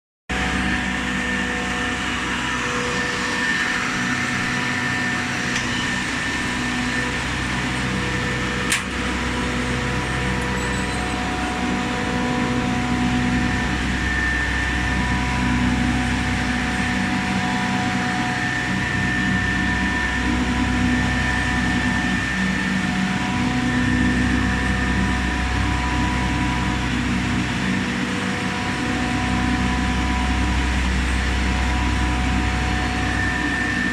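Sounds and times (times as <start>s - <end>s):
chiller mechanical hum: 0.3s - 33.9s.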